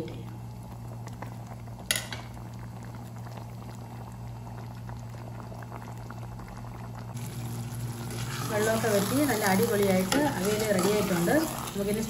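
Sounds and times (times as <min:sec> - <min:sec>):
curry bubbling in saucepan: 0:00.0 - 0:12.0
steady low hum: 0:00.0 - 0:12.0.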